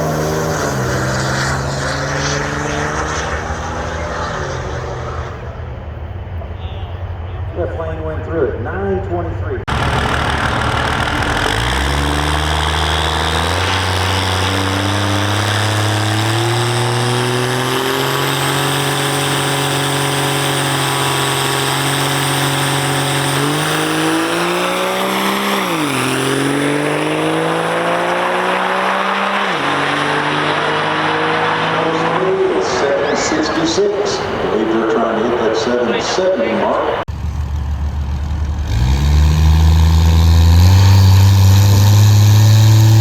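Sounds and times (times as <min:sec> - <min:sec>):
engine accelerating through gears: 0:00.0 - 0:05.8, 0:09.6 - 0:43.0.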